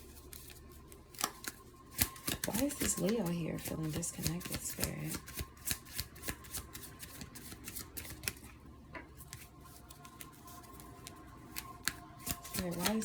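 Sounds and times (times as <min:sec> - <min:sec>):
cards being shuffled: 0:00.0 - 0:08.5, 0:09.2 - 0:13.0.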